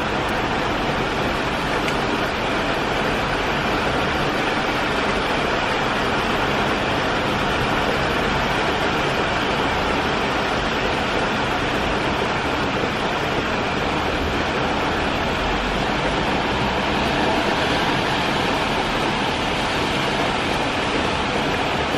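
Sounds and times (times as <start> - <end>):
heavy rain on a wet street: 0.0 - 21.9.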